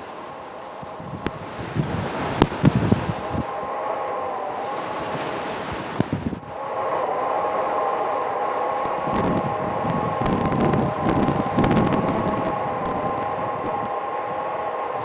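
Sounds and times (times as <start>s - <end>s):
multi-tone whistling hum: 0.0s - 15.0s
wind blowing against microphone: 0.0s - 15.0s.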